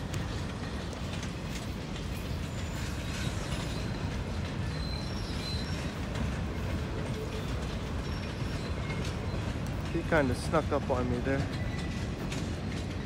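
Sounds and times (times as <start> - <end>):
steel wheels rumbling on rails: 0.0 - 13.0
faint high wheel squeals: 2.1 - 13.0.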